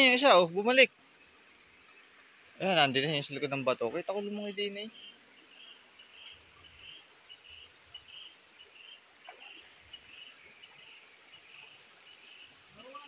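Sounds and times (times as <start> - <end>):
insect chirping call: 0.0 - 13.0
insects buzzing: 0.0 - 13.0.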